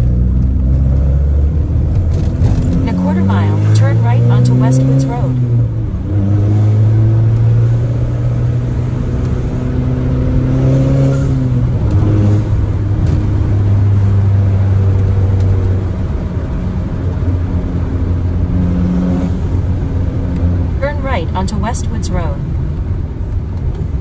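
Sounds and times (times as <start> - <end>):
car engine and exhaust: 0.0 - 24.0.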